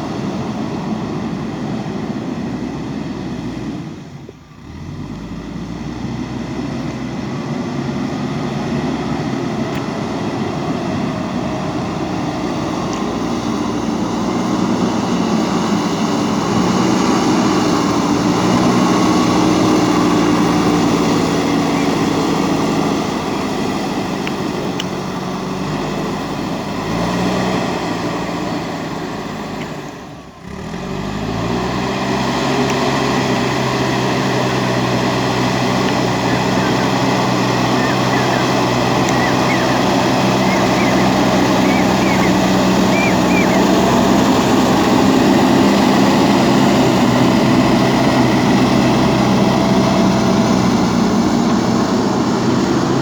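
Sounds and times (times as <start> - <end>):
diesel engine revving: 0.0 - 53.0.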